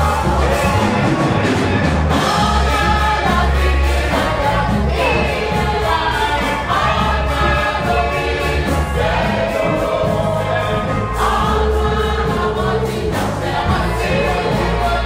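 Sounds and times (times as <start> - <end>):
choir singing gospel: 0.0 - 15.0.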